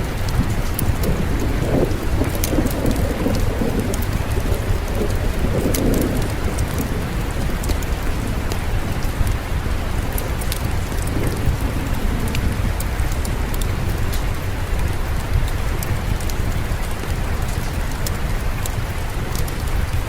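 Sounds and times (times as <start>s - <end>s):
fireplace wood crackling: 0.0s - 20.0s
low rumble: 0.0s - 20.0s
rainfall hiss: 0.0s - 20.0s.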